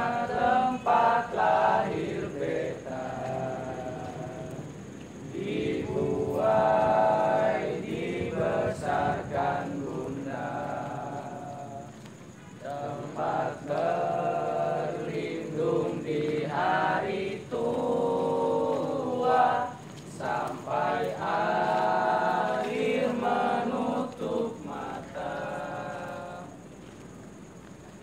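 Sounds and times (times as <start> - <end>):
young voices singing in unison: 0.0 - 26.8.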